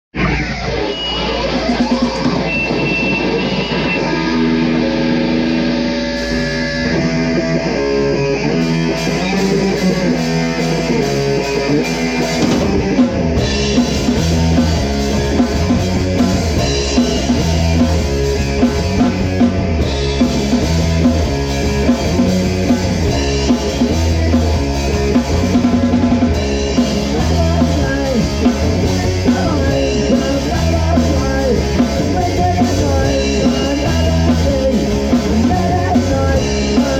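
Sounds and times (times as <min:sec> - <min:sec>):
rock music with guitar and drums: 0:00.1 - 0:36.9.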